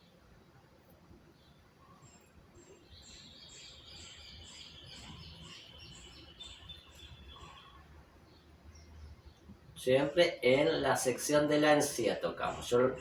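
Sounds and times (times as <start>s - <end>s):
bird chirping faintly: 0.0s - 13.0s.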